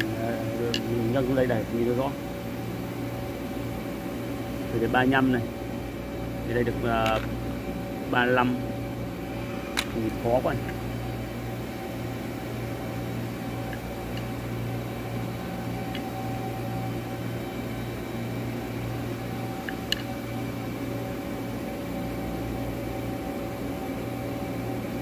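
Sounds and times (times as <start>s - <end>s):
workshop machinery humming: 0.0s - 25.0s.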